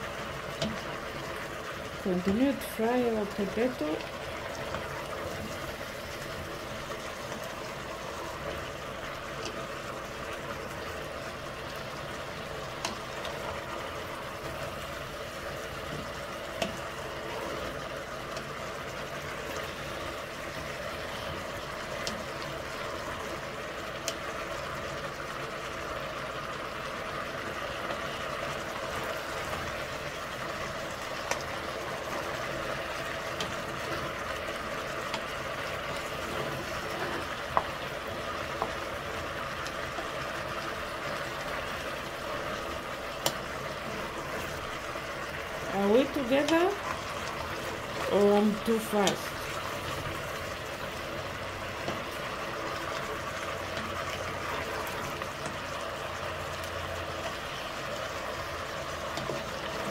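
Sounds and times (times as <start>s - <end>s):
vegetables sizzling in oil: 0.0s - 59.9s.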